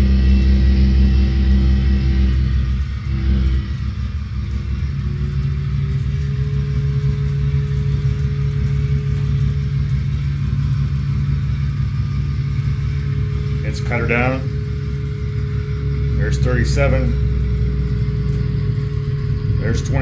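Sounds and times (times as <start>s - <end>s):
diesel engine rumble from speaker: 0.0s - 20.0s
engine whine: 0.0s - 20.0s.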